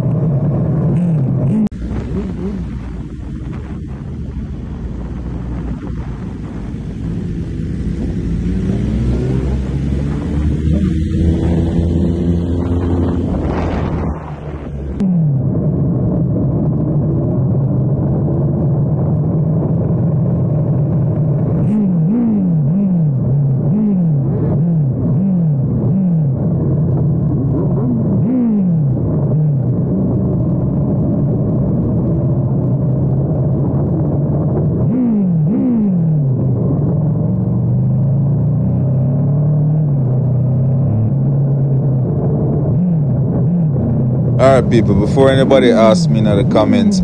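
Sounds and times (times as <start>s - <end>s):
muffled motorcycle throttle blips: 0.0s - 47.0s.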